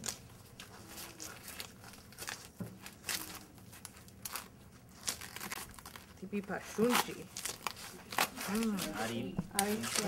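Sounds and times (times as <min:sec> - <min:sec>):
corn husks rustling and tearing: 0:00.0 - 0:10.0.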